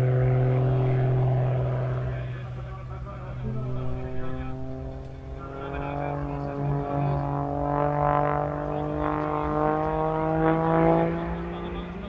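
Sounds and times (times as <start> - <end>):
propeller plane droning: 0.0 - 12.0.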